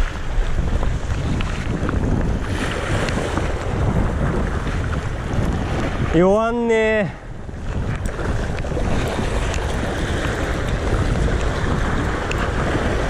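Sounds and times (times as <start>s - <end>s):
sea waves splashing over rocks: 0.0s - 13.0s
wind rumbling on microphone: 0.0s - 13.0s.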